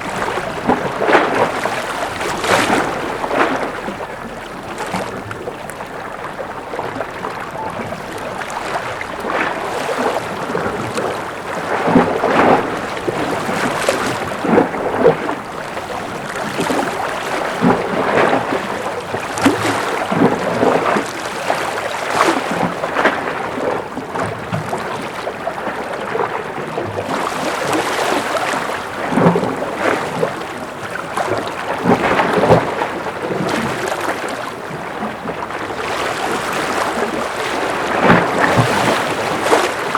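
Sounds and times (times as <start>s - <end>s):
ocean waves lapping and splashing: 0.0s - 39.9s.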